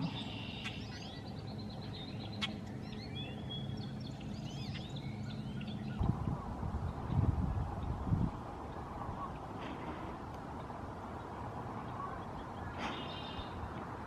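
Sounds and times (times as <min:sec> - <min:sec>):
small birds chirping: 0:00.0 - 0:13.9
steady low hum: 0:00.0 - 0:14.0.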